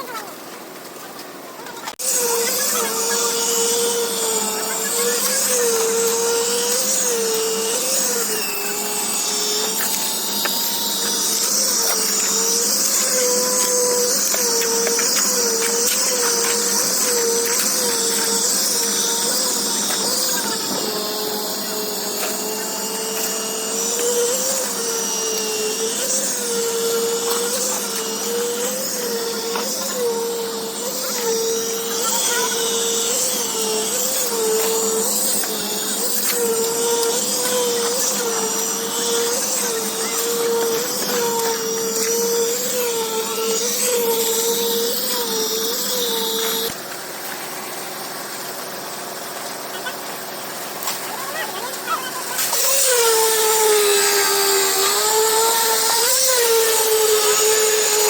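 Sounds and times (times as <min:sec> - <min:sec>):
machine motor running: 0:00.0 - 0:58.0.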